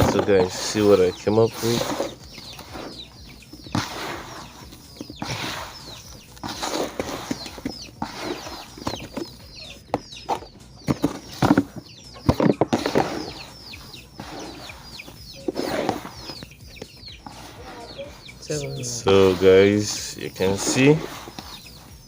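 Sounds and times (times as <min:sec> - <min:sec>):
chickens peeping: 0:00.0 - 0:22.0.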